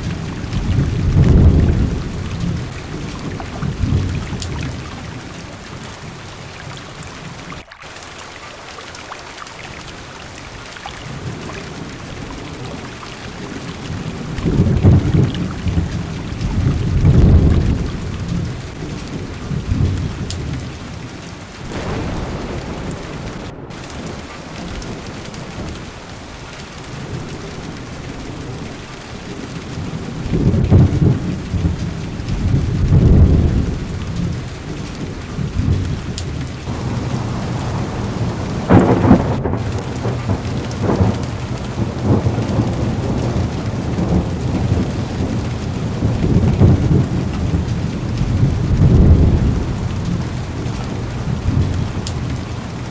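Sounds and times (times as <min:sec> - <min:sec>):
thunder rumbling: 0:00.0 - 0:06.8, 0:11.0 - 0:52.9
heavy rain on car window: 0:00.0 - 0:52.9.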